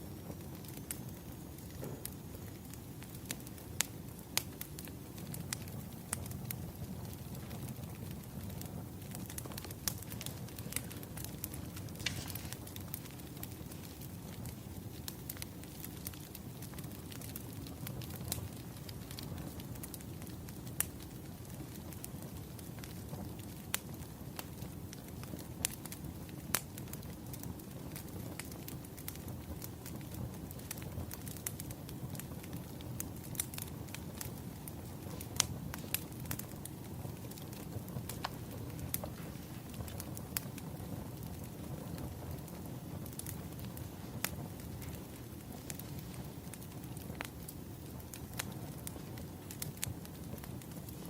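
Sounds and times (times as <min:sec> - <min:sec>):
firewood crackling: 0:00.0 - 0:51.0
low rumble of flames: 0:00.0 - 0:51.0.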